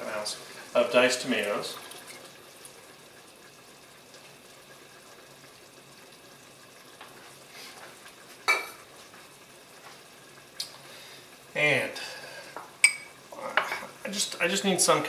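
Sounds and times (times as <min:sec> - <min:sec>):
sauce simmering with sizzling hiss: 0:00.0 - 0:15.0.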